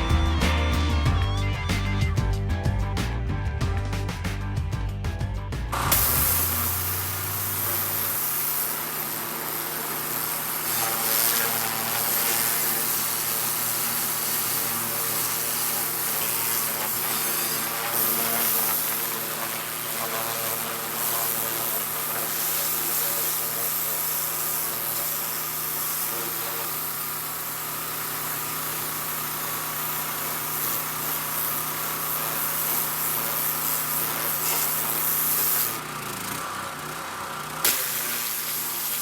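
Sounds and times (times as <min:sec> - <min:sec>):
pressure washer jet hissing: 0:05.8 - 0:39.0.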